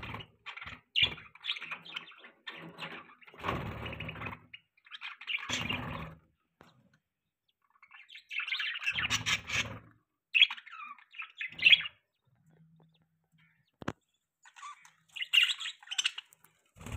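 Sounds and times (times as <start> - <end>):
budgerigars chirping and chattering: 0.0 - 6.2, 7.6 - 16.9.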